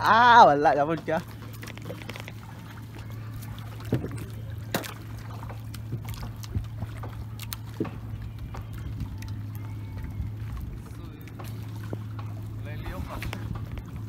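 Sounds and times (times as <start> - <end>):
boat engine humming: 0.0 - 14.0
knocks and water splashes: 0.0 - 14.0.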